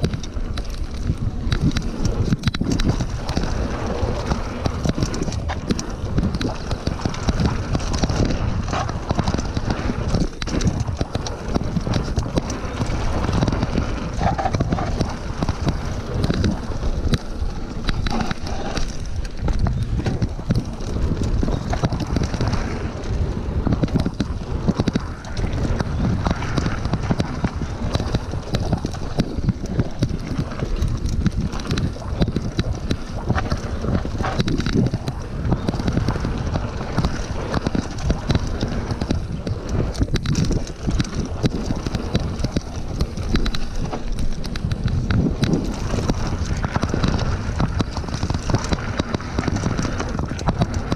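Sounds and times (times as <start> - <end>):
bike clattering over bumps: 0.0 - 50.9
bike tyres rolling over dirt: 0.0 - 50.9
wind buffeting microphone: 0.0 - 50.9.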